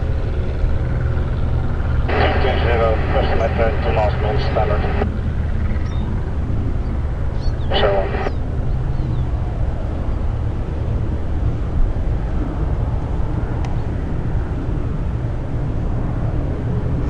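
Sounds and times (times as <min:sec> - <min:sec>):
distant aircraft engines droning: 0:00.0 - 0:17.0.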